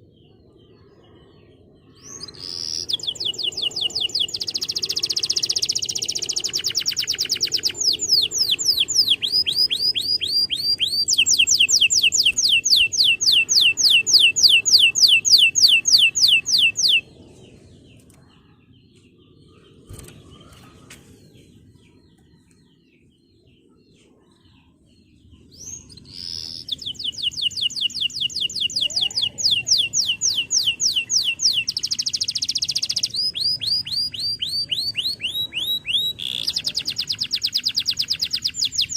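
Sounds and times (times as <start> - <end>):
canary singing trills: 2.0 - 20.8, 24.6 - 38.9.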